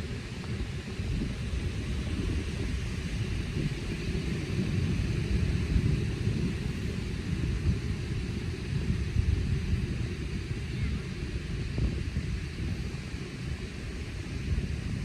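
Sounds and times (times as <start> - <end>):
steady high hiss: 0.0 - 15.0
wind buffeting microphone: 0.0 - 15.0.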